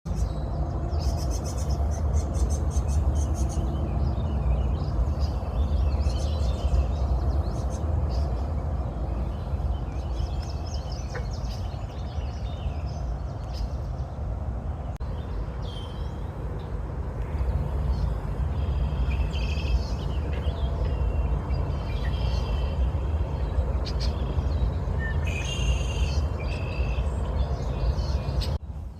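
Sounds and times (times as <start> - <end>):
songbirds singing and chirping: 0.1 - 28.9
steady low rumble: 0.1 - 28.9.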